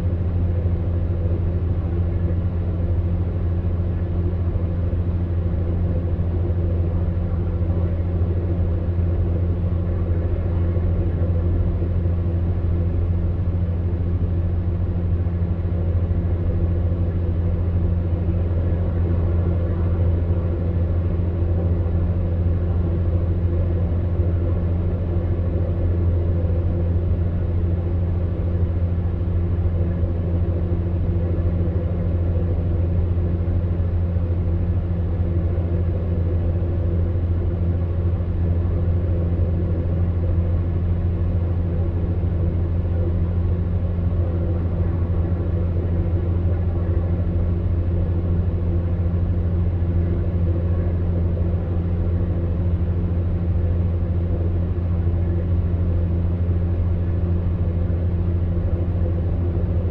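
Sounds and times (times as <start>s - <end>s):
fan heater humming and blowing: 0.0s - 59.9s.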